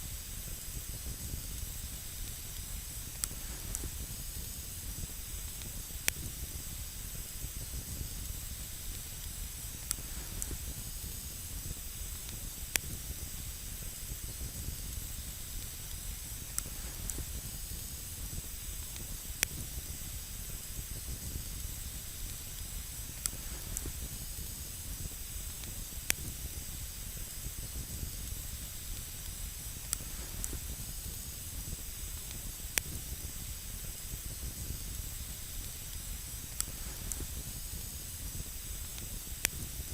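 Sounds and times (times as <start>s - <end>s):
campfire hissing: 0.0s - 39.9s
fire crackling pops: 0.0s - 39.9s.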